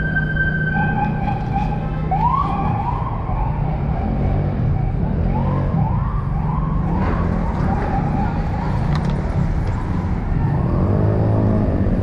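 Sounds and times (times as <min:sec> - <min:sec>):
police siren whooping: 0:00.0 - 0:11.2
engine hum: 0:00.0 - 0:12.0.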